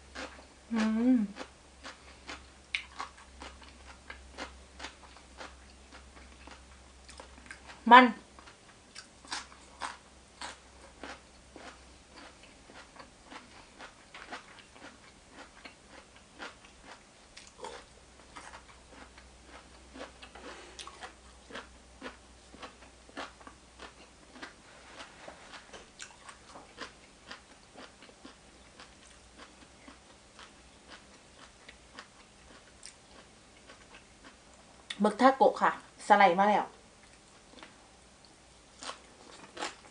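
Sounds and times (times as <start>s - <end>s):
faint low hum: 0.0s - 39.9s
person chewing food: 0.1s - 35.0s, 37.0s - 39.9s.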